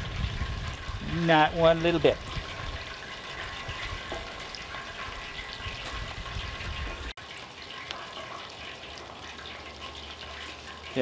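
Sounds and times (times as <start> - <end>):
chicken wings deep-frying in oil: 0.0 - 11.0.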